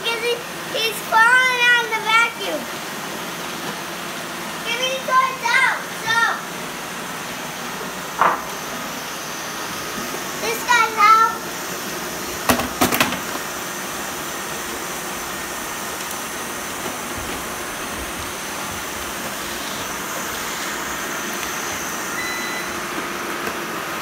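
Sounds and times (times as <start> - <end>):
robot vacuum cleaners whirring: 0.0 - 24.0.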